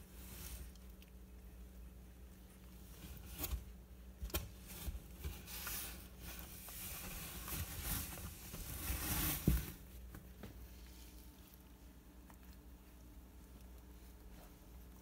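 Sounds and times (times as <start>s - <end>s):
puppies rustling on towel: 2.4s - 15.0s.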